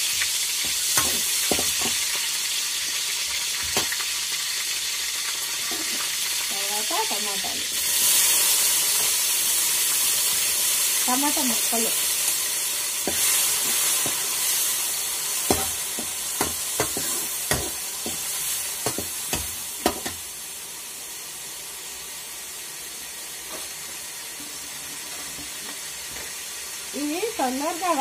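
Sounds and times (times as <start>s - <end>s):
tomatoes sizzling in hot oil: 0.0s - 28.0s.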